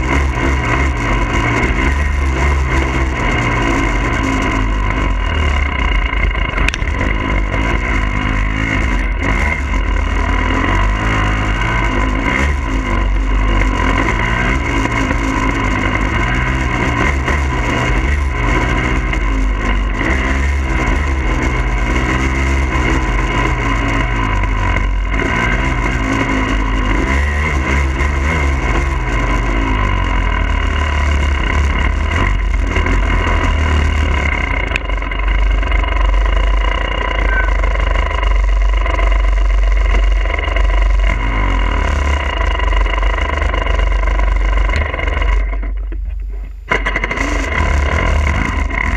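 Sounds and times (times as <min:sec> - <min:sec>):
dirt bike engine revving: 0:00.0 - 0:46.0, 0:46.7 - 0:48.9.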